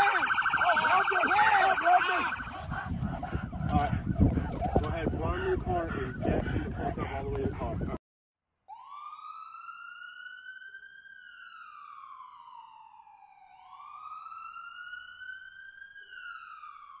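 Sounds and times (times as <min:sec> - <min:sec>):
siren wailing: 0:00.0 - 0:06.2, 0:08.7 - 0:17.0.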